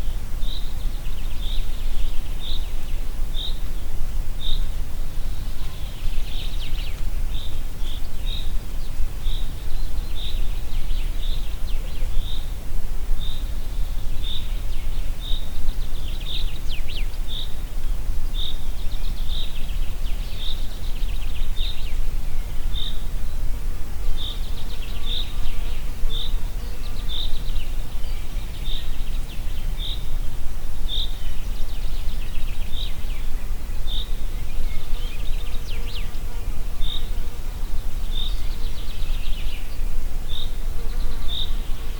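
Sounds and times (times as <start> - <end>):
wind in a forest: 0.0 - 41.9.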